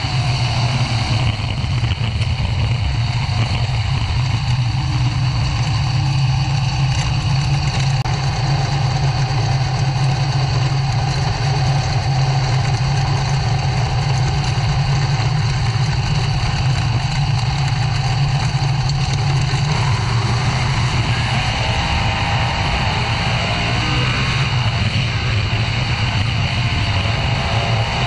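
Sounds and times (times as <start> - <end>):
race car engine running: 0.0 - 28.0.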